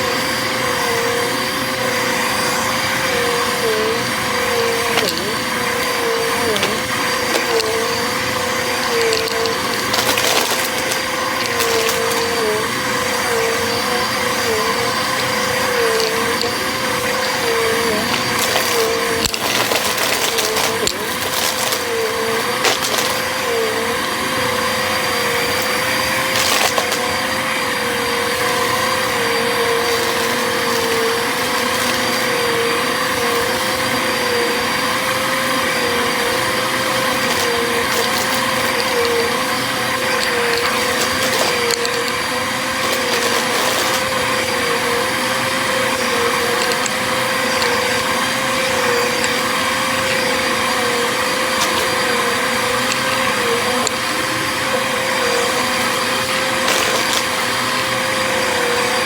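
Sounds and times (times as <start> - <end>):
vacuum cleaner whining: 0.0 - 59.0
debris clicking through vacuum: 2.3 - 24.3, 25.1 - 27.2, 28.3 - 33.9, 35.7 - 54.4, 55.3 - 57.9.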